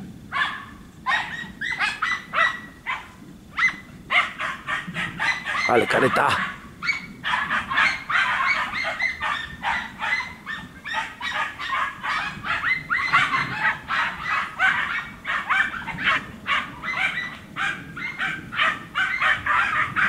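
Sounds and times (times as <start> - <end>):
hounds yelping and baying: 0.3 - 20.0.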